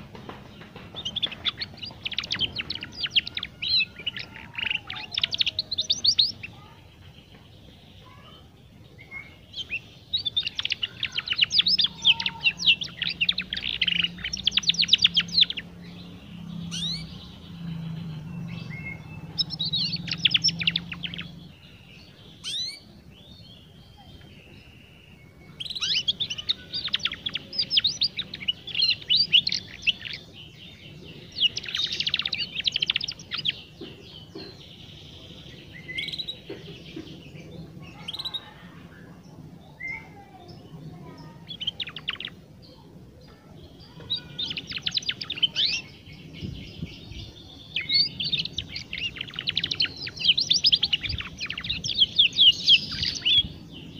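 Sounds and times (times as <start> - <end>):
canary twittering trills: 0.0 - 53.9.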